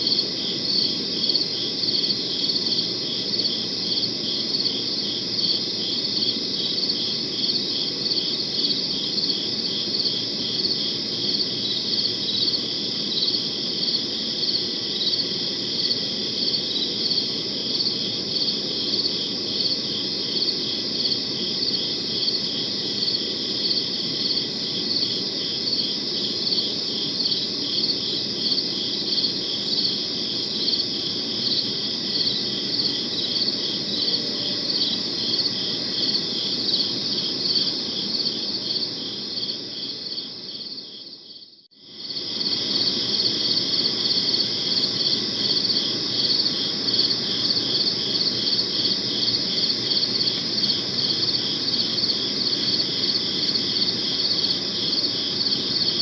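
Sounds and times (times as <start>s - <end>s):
crickets chirping: 0.0s - 56.0s
low steady background noise: 0.0s - 56.0s.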